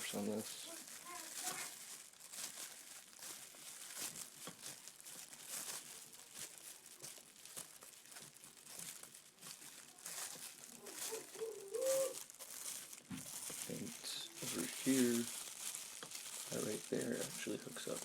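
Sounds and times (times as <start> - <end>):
crinkling rustle from handling: 0.0 - 18.0.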